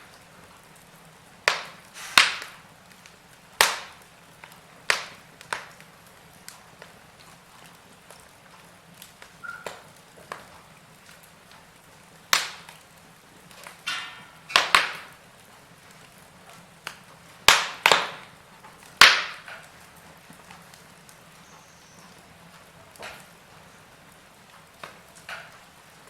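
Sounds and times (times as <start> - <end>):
fire hiss: 0.0 - 26.0
wood fire popping and snapping: 0.0 - 26.0.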